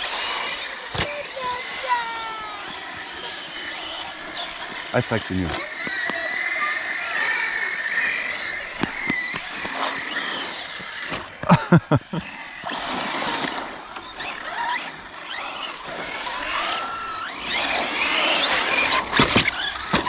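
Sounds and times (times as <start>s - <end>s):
rc car motors whining: 0.0s - 20.0s.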